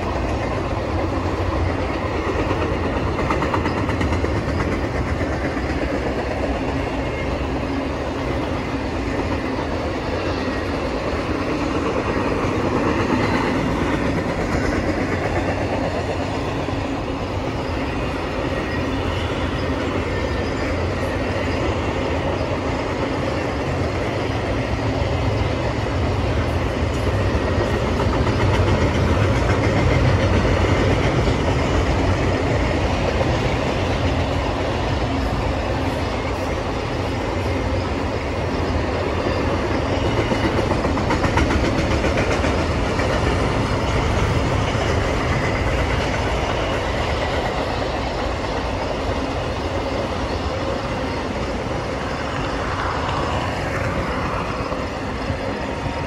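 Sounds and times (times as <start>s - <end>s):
train rolling on rails: 0.0s - 56.0s.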